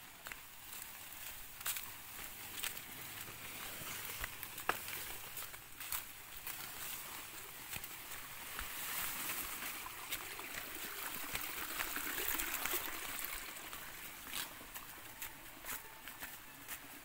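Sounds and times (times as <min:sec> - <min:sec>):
banana leaves rustling: 0:00.0 - 0:17.0
footsteps on dry leaves: 0:00.0 - 0:17.0.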